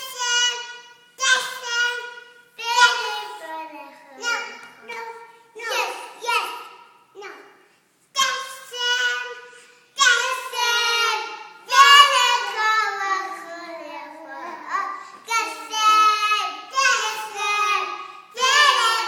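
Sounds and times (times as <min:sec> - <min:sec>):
young child singing: 0:00.0 - 0:06.6, 0:08.1 - 0:19.0.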